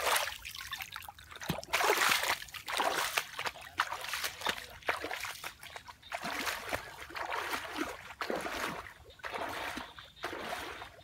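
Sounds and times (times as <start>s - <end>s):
footsteps wading through muddy water: 0.0s - 11.0s.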